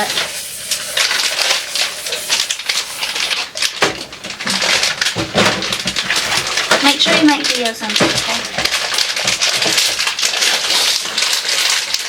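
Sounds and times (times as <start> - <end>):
small clicks and crackles: 0.0 - 12.0.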